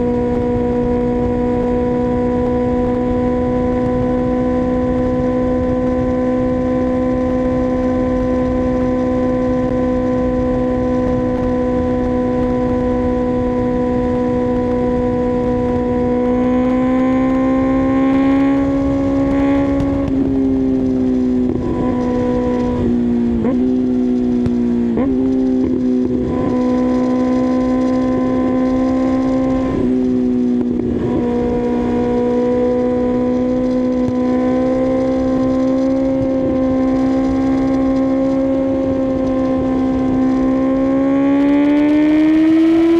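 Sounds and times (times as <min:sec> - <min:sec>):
motorcycle engine revving: 0:00.0 - 0:42.9
road rumble: 0:00.0 - 0:42.9
wind: 0:00.0 - 0:42.9.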